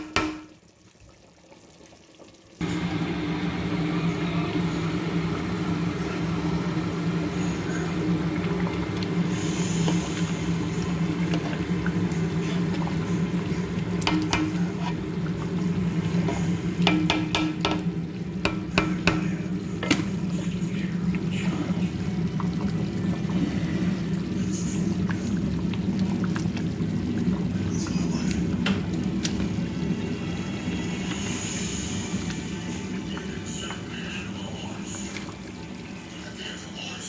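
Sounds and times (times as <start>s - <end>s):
stew pot being stirred: 0.0s - 36.2s
steady low hum: 2.6s - 36.3s.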